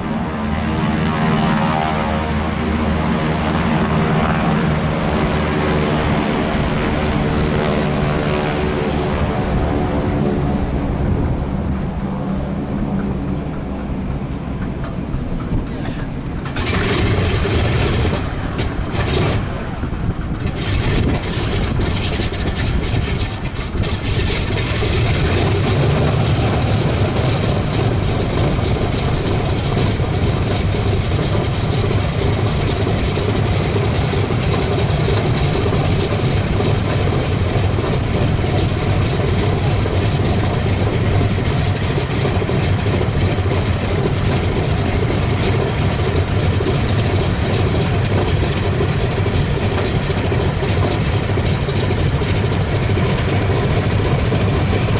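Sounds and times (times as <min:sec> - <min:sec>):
radial aircraft engine running: 0:00.0 - 0:54.9.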